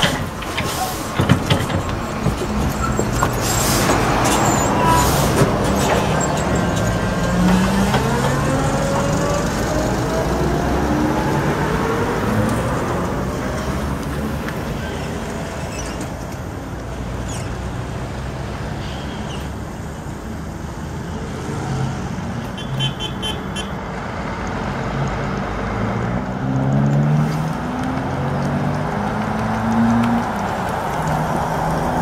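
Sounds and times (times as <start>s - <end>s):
street traffic: 0.0s - 32.0s
trolleybus driving: 0.0s - 32.0s.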